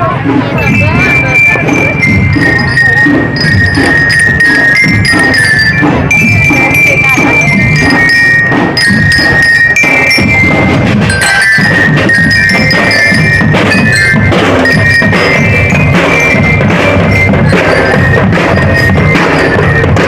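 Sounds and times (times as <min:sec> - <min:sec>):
parade drum beats: 0:00.0 - 0:20.0
bell-like melody: 0:00.2 - 0:20.0.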